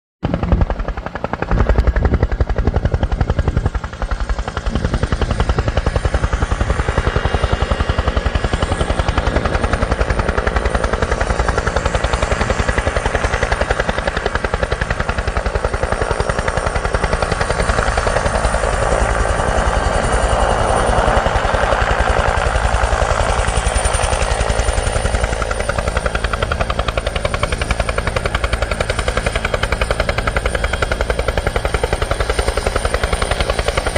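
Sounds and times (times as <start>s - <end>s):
helicopter rotor beating: 0.2s - 33.9s.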